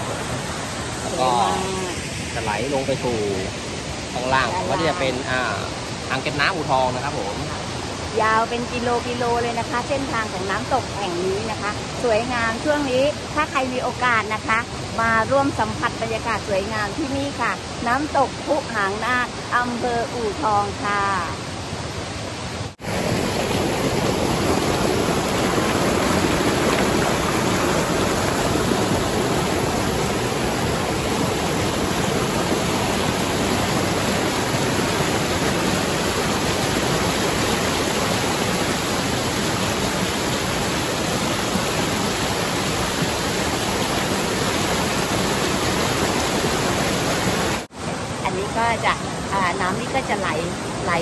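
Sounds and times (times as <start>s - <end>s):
stream rushing over rocks: 0.0s - 20.8s, 21.4s - 51.0s.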